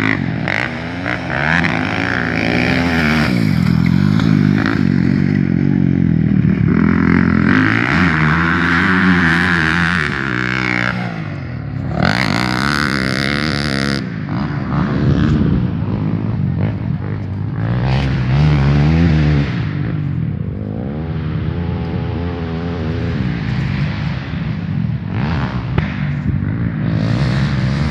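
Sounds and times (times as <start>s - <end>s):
motorcycle engines revving: 0.0s - 27.9s
noisy rush: 0.8s - 27.9s.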